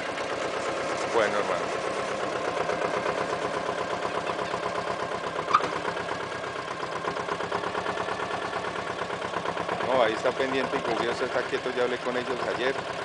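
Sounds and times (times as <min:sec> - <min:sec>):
mini dumper engine idling: 0:00.0 - 0:13.0.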